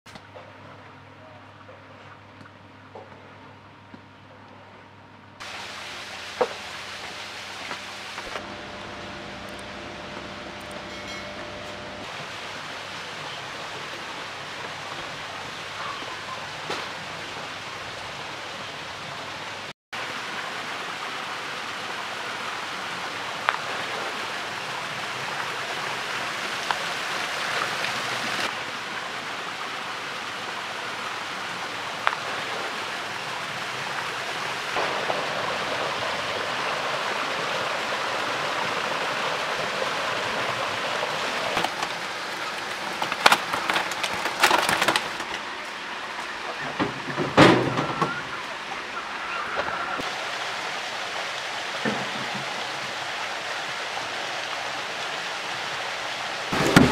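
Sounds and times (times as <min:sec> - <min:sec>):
stream water flowing: 0:05.4 - 0:56.9.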